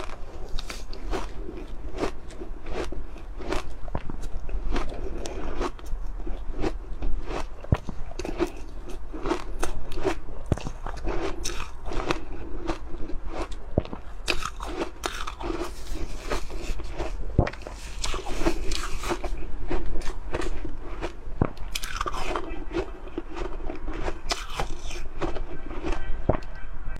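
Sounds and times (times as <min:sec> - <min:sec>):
ice crunching being chewed: 0:00.0 - 0:26.5.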